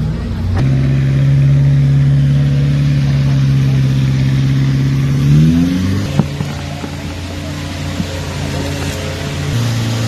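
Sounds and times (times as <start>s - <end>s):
engine running under load: 0.0s - 10.0s.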